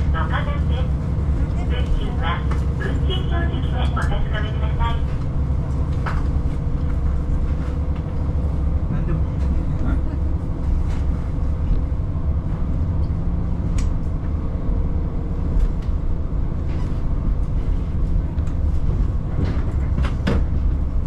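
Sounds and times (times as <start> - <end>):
railcar engine and wheels rumble: 0.0 - 21.0.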